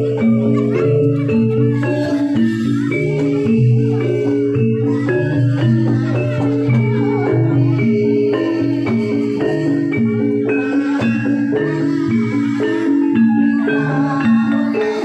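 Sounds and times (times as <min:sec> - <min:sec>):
gamelan metallophones ringing: 0:00.0 - 0:15.0.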